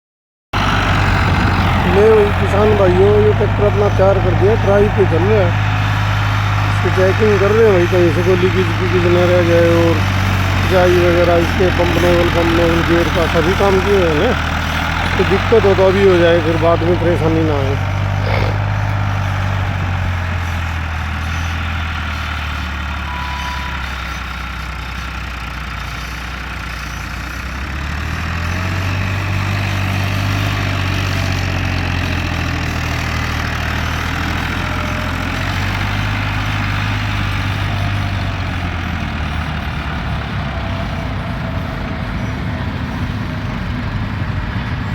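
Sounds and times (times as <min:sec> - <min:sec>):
tractor diesel engine running: 0:00.6 - 0:44.9.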